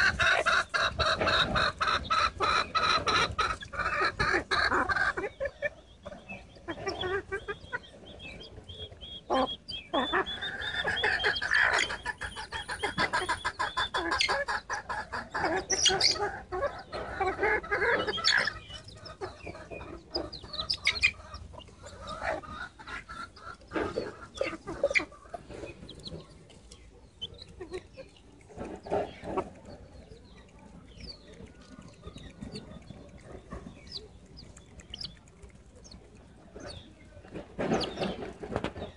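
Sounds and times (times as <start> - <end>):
chicks clucking and cheeping: 0.0 - 38.9.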